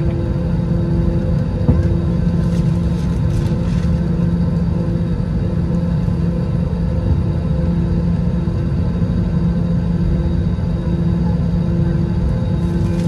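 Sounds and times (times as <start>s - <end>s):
constant cabin hum: 0.0s - 13.0s
jet engine rumble: 0.0s - 13.0s.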